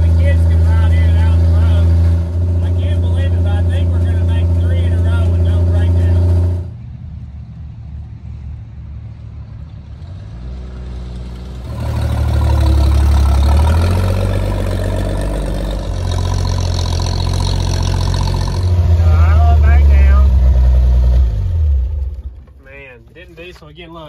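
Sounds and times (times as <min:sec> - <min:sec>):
car engine passing by: 0:00.0 - 0:22.4.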